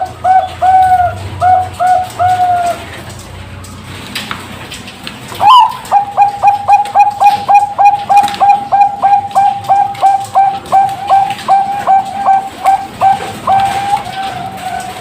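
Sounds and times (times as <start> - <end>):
dove cooing: 0.0 - 3.1, 5.4 - 15.0.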